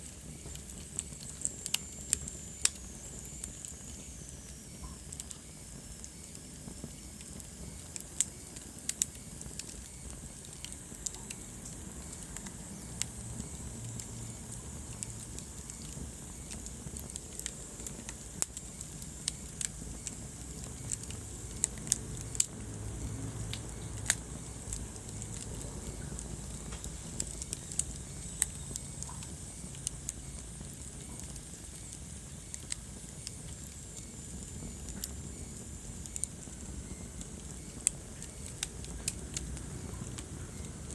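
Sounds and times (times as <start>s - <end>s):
burning logs crackling and popping: 0.0s - 40.9s
flames hissing and rumbling: 0.0s - 40.9s.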